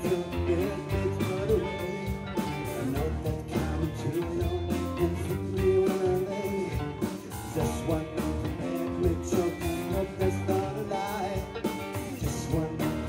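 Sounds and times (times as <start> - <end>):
bass guitar: 0.0 - 13.0
drum beat: 0.0 - 13.0
electric guitar: 0.0 - 13.0.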